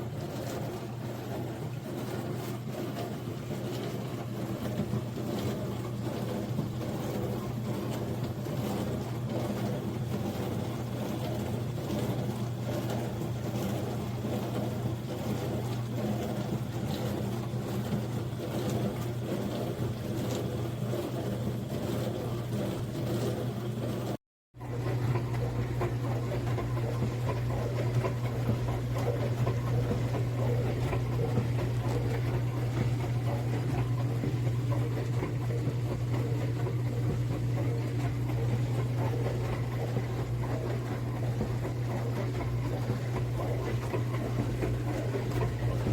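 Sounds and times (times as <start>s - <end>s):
dishwasher pump motor hum: 0.0s - 45.9s
water spraying and sloshing: 0.0s - 45.9s.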